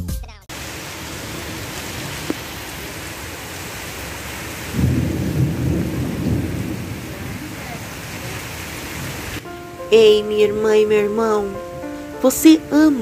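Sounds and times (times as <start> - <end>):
thunder rumbling: 0.5 - 11.8
steady rain: 0.5 - 13.0.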